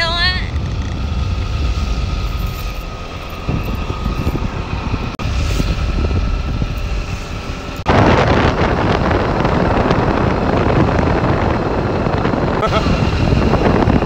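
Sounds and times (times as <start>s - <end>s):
vehicle rumbling along road: 0.0s - 14.0s
wind rushing over microphone: 0.0s - 14.0s.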